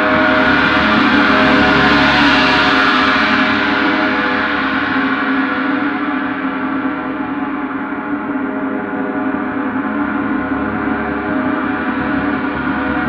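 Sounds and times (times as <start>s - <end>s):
gong ringing: 0.0s - 13.0s.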